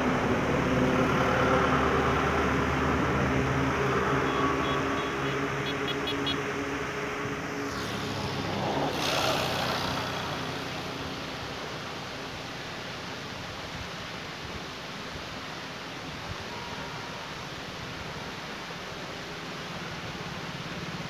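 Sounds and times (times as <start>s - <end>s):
steady rush of noise: 0.0s - 21.0s.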